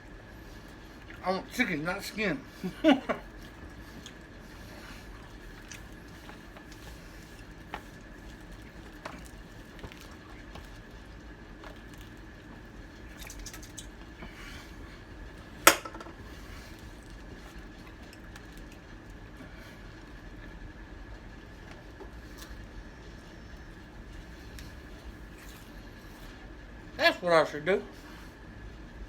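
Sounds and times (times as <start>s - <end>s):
soft squishy eating noises: 0.0s - 15.6s, 16.2s - 27.0s
faint hum: 0.0s - 29.0s.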